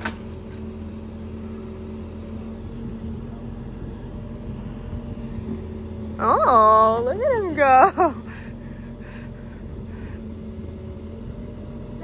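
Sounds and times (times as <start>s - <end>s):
digger engine running: 0.0s - 12.0s.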